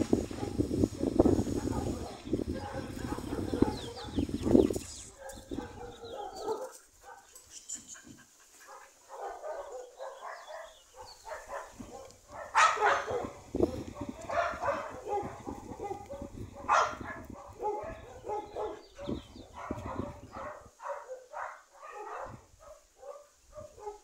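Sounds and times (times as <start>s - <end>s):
dogs barking: 0.1s - 7.5s, 8.1s - 24.0s.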